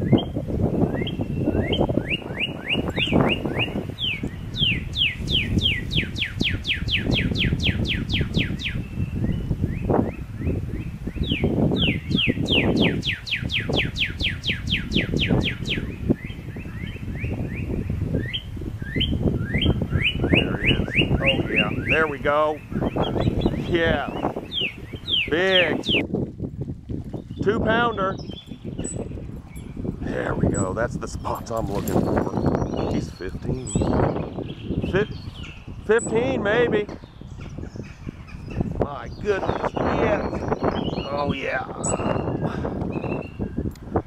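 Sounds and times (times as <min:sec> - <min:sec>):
rapid bird chirps: 0:00.0 - 0:26.1, 0:27.1 - 0:29.9, 0:32.0 - 0:36.3, 0:37.0 - 0:43.7.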